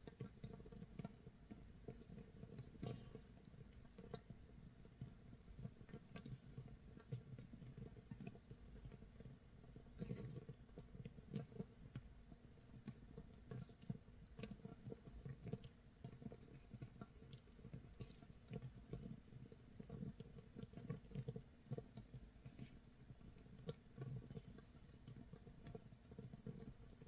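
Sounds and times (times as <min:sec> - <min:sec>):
fermenting brew bubbles popping: 0:00.0 - 0:27.0.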